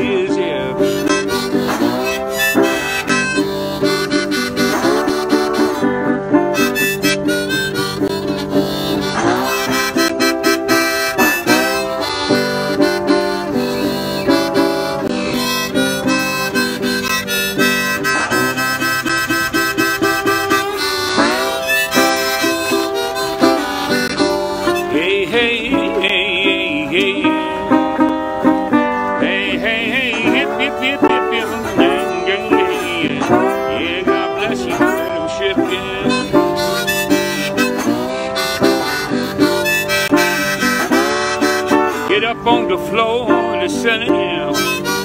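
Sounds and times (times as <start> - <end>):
harmonica: 0.0 - 45.0
slide guitar: 0.0 - 45.0.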